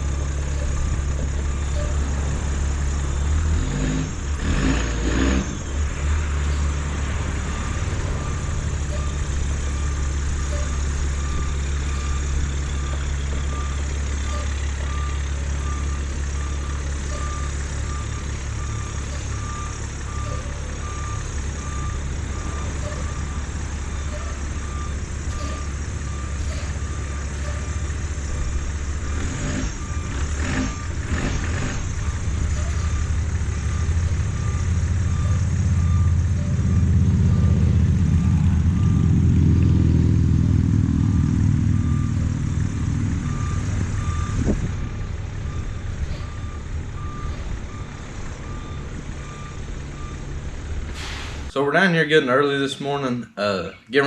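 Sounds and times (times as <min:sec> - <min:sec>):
reversing alarm beeping: 0:00.0 - 0:04.2, 0:06.5 - 0:39.5, 0:41.0 - 0:50.4
diesel engine running: 0:00.0 - 0:54.0.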